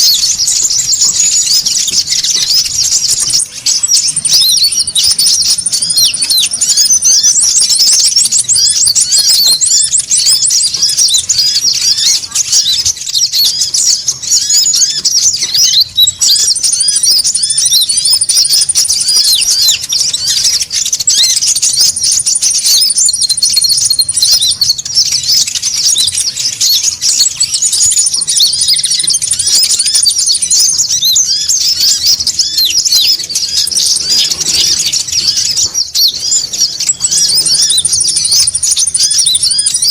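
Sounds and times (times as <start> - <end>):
birds chirping in chorus: 0.0 - 39.9
thin high bird trill: 0.0 - 39.9.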